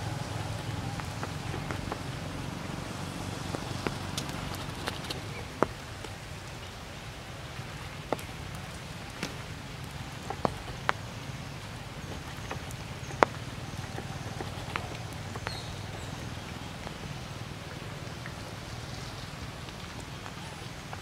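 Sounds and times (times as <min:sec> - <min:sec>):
rain falling through foliage: 0:00.0 - 0:21.0.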